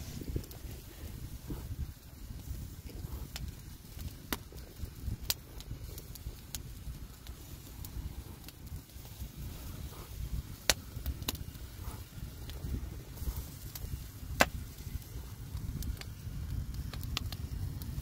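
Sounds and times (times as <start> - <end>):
low rumble: 0.0 - 18.0
wood fire crackling: 0.0 - 18.0.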